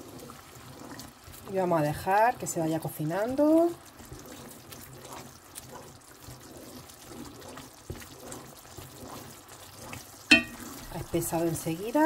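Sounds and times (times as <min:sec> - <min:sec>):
sauce bubbling in a pan: 0:00.0 - 0:12.0.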